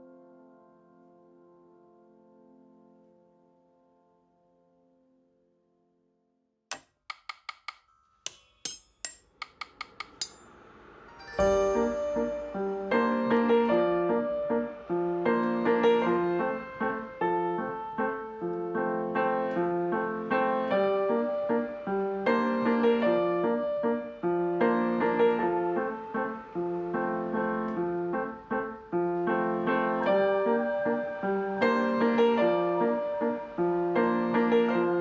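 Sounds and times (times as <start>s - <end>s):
piano music: 0.0s - 5.7s, 11.0s - 35.0s.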